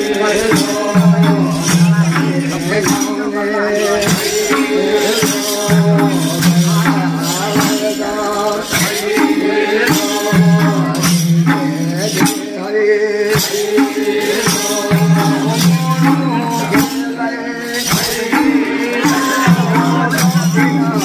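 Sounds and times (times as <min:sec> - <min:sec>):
jingling strokes: 0:00.0 - 0:21.0
person singing long held notes: 0:00.0 - 0:21.0
steady percussion beat: 0:00.0 - 0:21.0.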